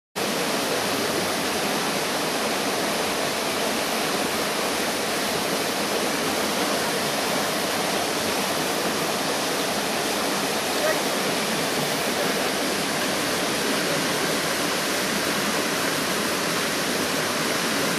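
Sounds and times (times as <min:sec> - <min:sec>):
river water rushing over rocks: 0:00.2 - 0:17.9.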